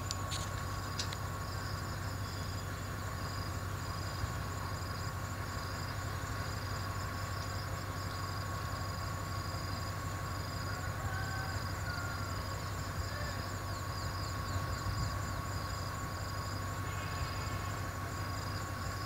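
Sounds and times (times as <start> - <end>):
insects chirping: 0.0 - 19.0
locomotive engine idling: 0.0 - 19.0.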